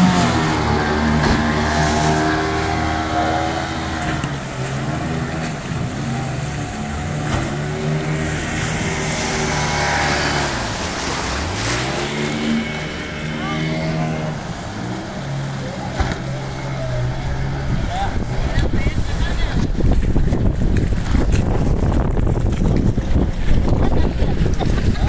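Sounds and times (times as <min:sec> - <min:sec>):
outboard motor running: 0:00.0 - 0:25.0
rushing water and spray: 0:00.0 - 0:25.0.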